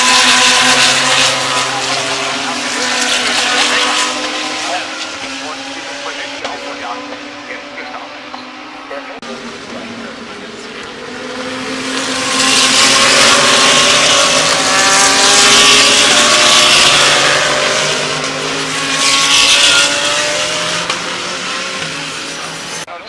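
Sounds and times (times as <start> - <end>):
race cars racing past: 0.0 - 22.9.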